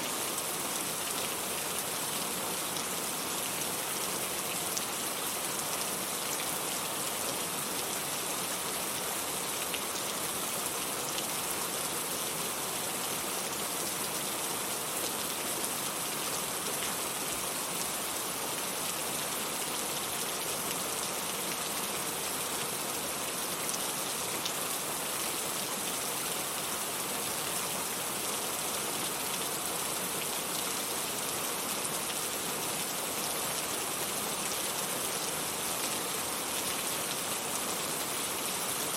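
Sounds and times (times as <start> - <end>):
steady rainfall hiss: 0.0 - 38.9.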